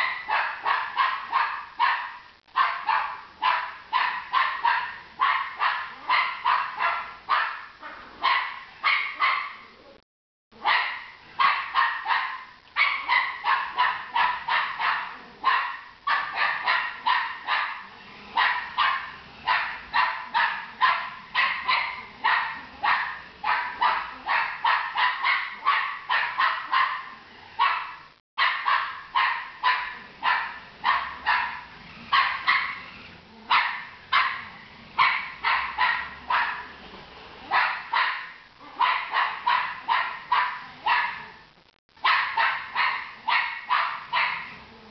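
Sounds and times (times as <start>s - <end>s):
dog barking rapidly: 0.0s - 9.7s, 10.6s - 36.8s, 37.4s - 41.4s, 42.0s - 44.9s.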